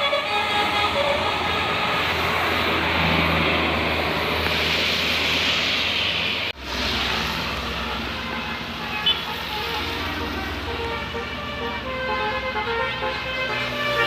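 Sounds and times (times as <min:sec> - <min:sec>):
vehicle engine roaring: 0:00.0 - 0:14.0.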